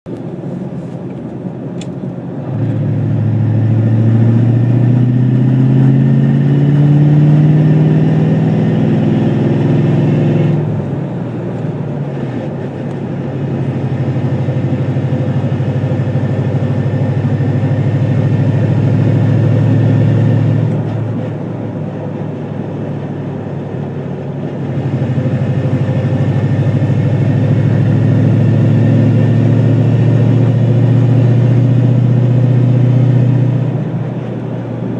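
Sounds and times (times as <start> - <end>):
car engine revving: 1.8 - 34.9.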